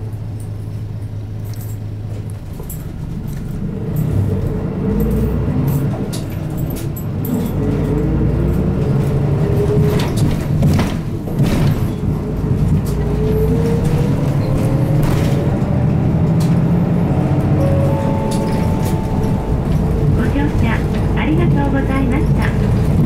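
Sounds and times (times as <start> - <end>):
bus body rattling: 0.0 - 23.0
bus engine accelerating: 0.0 - 23.0.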